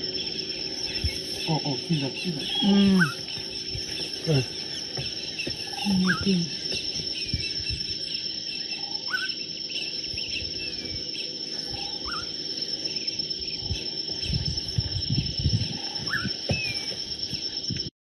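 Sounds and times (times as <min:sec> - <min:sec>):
low rumbling microphone buffets: 0:00.0 - 0:08.5, 0:09.6 - 0:17.9
insects shrilling: 0:00.0 - 0:17.9.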